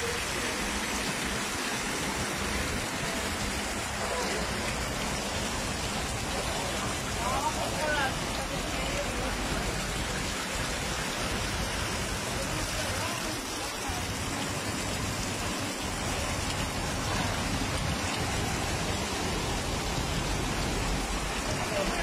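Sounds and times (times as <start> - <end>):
floodwater running: 0.0 - 22.0
heavy rain pouring: 0.0 - 22.0.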